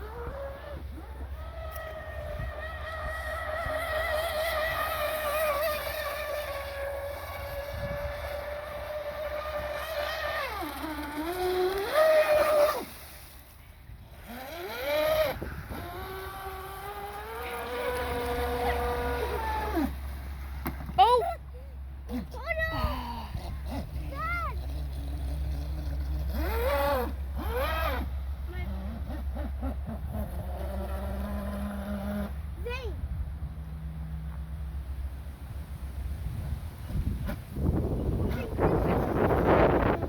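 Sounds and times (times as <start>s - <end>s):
electric motor whine of toy boat: 0.0s - 21.1s, 22.0s - 32.6s, 33.5s - 40.0s.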